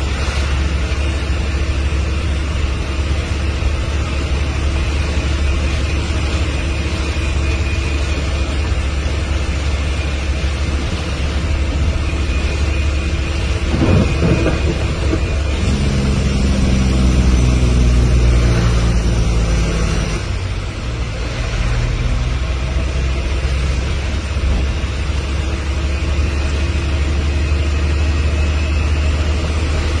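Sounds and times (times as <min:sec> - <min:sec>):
pitched engine hum: 0:00.0 - 0:30.0
vehicle engine rumble: 0:00.0 - 0:30.0.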